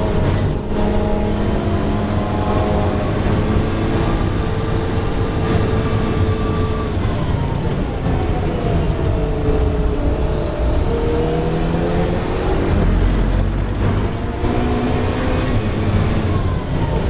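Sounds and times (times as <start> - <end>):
race car engine running hard: 0.0 - 17.0.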